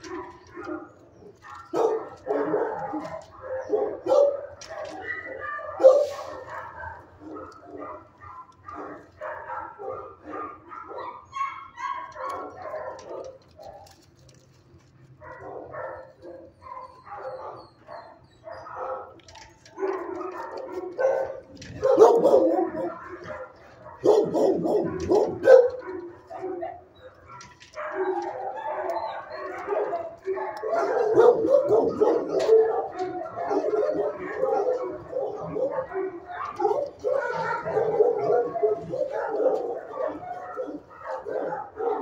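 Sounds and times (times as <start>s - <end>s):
dogs barking: 0.0s - 14.4s, 15.1s - 42.0s.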